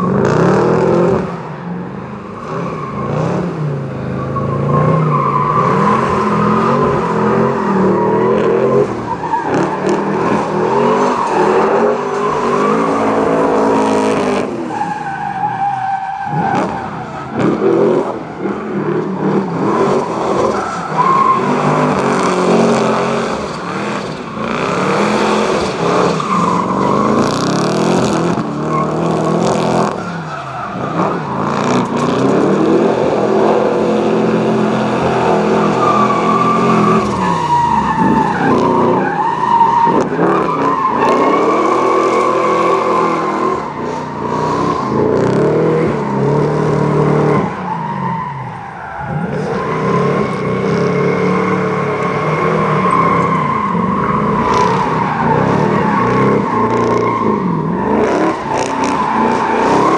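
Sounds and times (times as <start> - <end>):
car engine revving hard: 0.0 - 1.4, 2.3 - 14.8, 16.3 - 48.2, 49.0 - 59.9
tyres squealing: 2.4 - 59.9.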